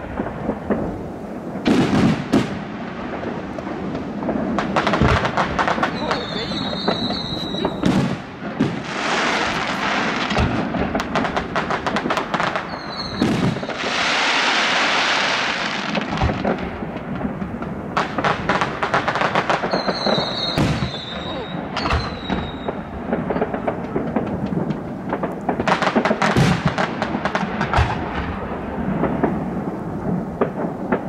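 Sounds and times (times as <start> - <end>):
firework booms: 0.0 - 31.0
firework crackling: 0.0 - 31.0.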